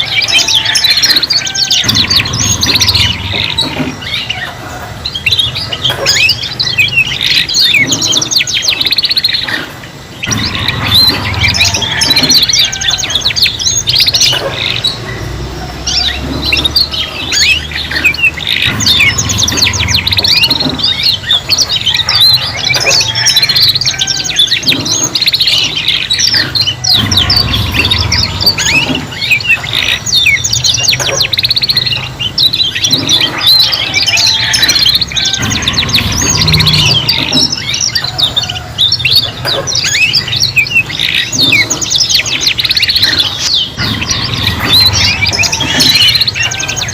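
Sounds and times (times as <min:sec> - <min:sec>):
canaries singing: 0:00.0 - 0:46.9.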